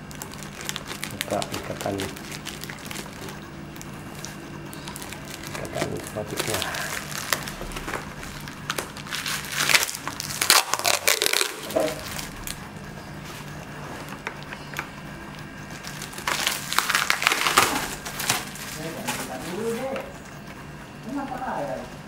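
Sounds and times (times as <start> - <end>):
packing tape crinkling and crackling: 0.0 - 20.2.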